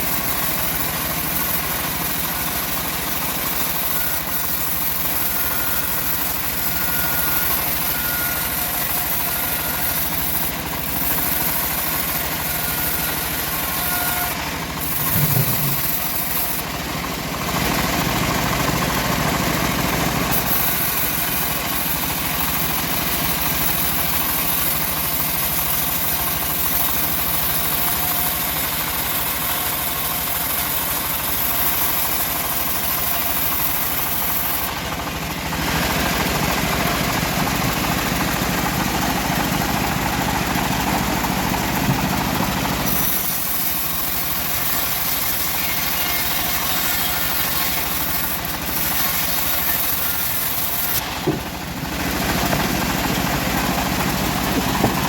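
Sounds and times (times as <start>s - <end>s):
bandsaw mill engine running: 0.0s - 55.0s.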